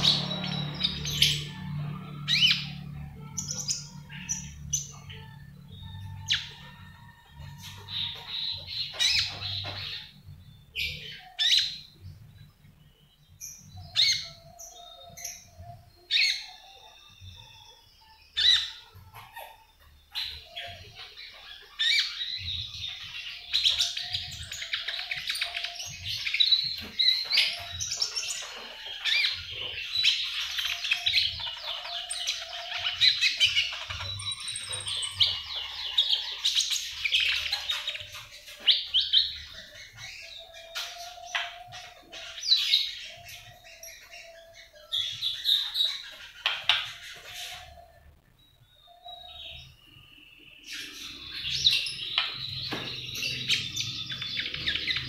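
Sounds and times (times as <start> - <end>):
caged bird chirping and twittering: 0.0 - 55.0.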